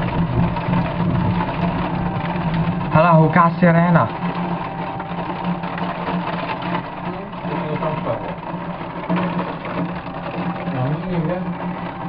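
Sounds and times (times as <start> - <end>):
heavy rain pouring: 0.0 - 12.0
low hum: 0.0 - 12.0.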